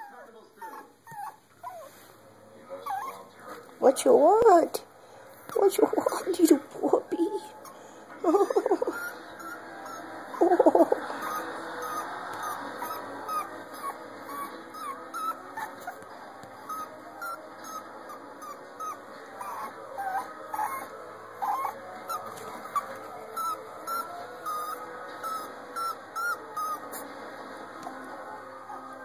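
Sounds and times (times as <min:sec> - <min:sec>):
puppy whimpering: 0:00.0 - 0:02.0, 0:02.8 - 0:03.4, 0:05.5 - 0:27.1, 0:28.6 - 0:29.0.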